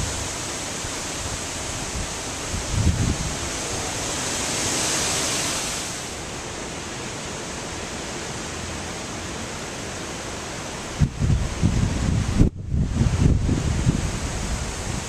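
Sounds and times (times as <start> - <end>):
hurricane wind rushing through trees: 0.0 - 15.0.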